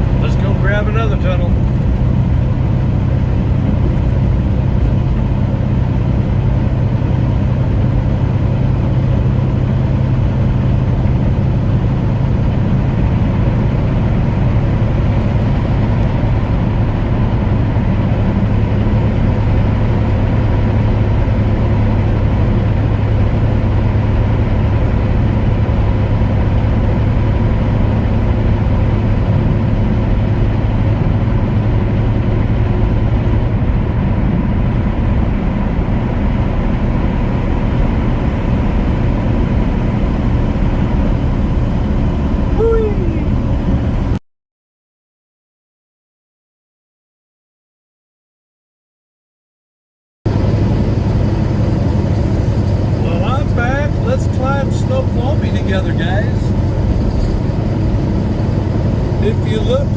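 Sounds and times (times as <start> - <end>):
road noise: 0.0 - 44.2, 50.3 - 59.9
truck engine drone: 0.0 - 44.2, 50.3 - 59.9.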